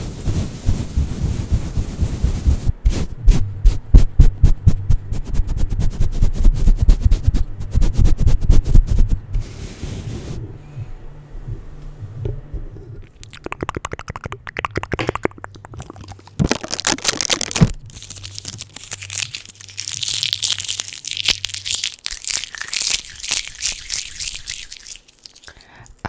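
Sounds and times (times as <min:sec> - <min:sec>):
sticky tape crackling on microphone: 0:00.0 - 0:09.5, 0:13.0 - 0:25.5.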